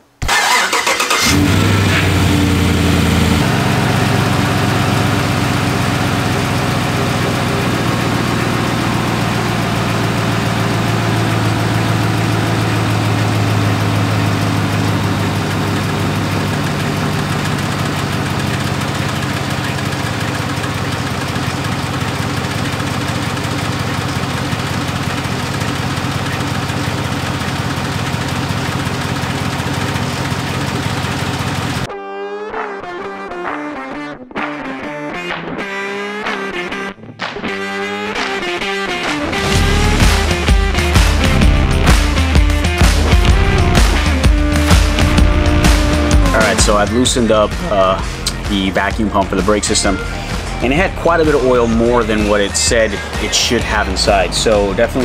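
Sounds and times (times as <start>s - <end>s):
engine ticking: 0.3s - 31.9s, 39.3s - 55.0s
truck engine idling: 0.3s - 31.9s, 39.2s - 55.0s.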